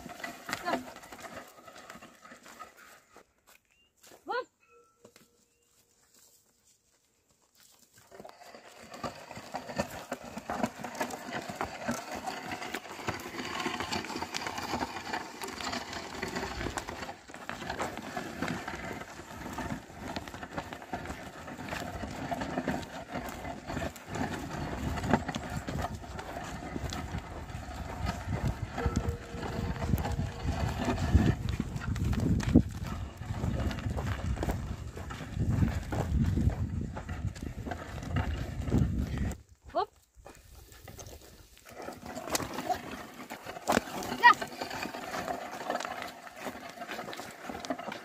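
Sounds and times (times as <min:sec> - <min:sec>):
plough scraping through soil: 0:00.0 - 0:03.5, 0:05.3 - 0:48.0
hooves treading: 0:00.0 - 0:48.0.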